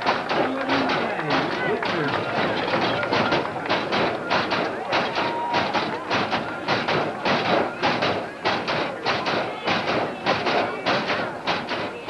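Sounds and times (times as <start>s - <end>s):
rhythmic sharp claps or taps: 0.0s - 12.0s.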